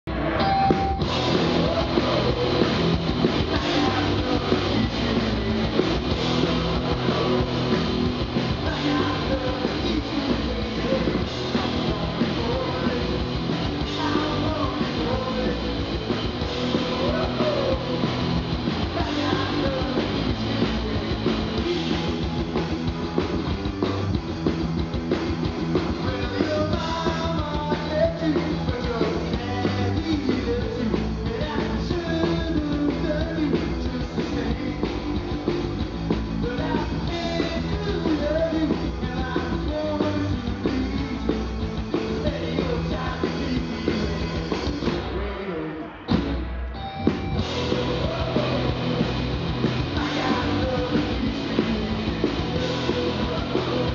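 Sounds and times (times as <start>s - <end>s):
punk rock band playing live: 0.0s - 53.9s
person singing: 0.1s - 22.4s, 26.0s - 35.4s, 36.4s - 46.3s, 47.3s - 53.9s.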